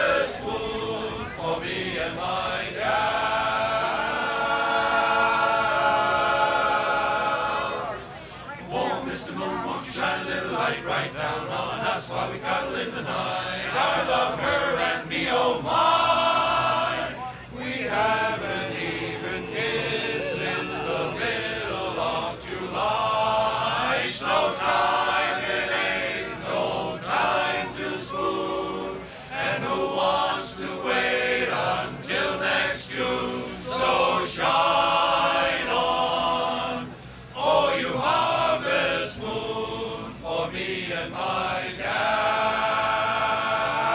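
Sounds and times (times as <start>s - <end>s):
men's chorus singing: 0.0s - 43.9s.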